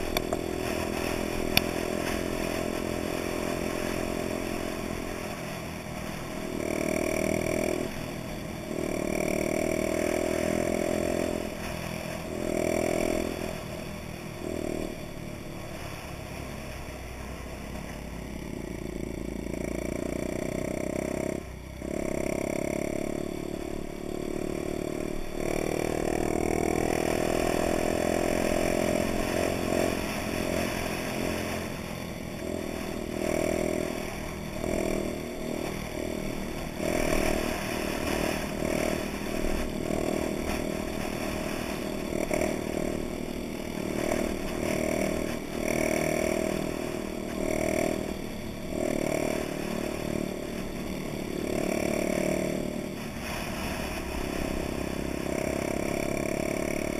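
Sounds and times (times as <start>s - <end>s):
small motorcycle engine revving: 0.0s - 56.9s.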